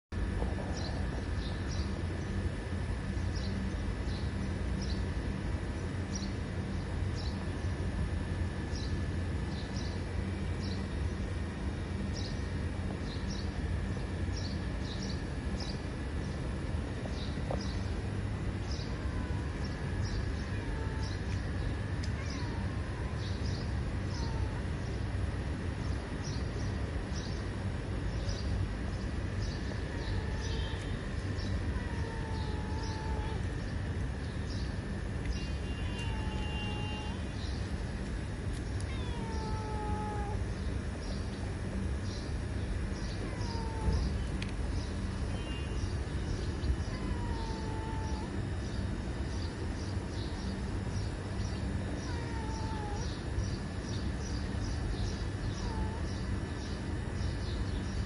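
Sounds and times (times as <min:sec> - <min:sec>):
low outdoor rumble: 0:00.1 - 0:58.0.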